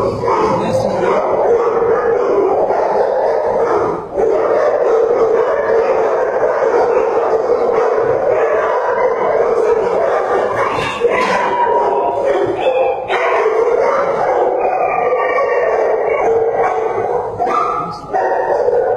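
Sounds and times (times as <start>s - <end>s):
dogs barking and howling: 0.0s - 18.9s.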